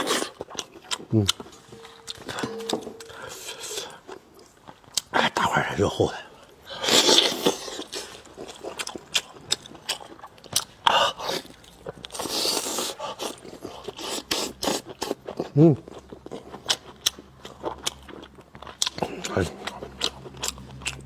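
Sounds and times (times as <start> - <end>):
person chewing meat: 0.0 - 5.5, 6.3 - 21.0.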